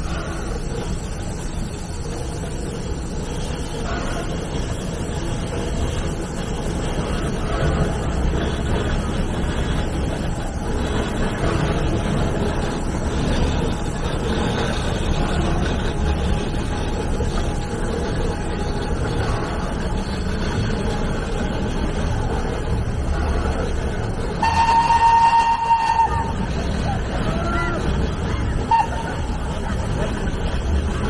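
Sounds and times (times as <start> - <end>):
locomotive whistle: 0.0 - 31.0
steam locomotive rumbling: 0.0 - 31.0.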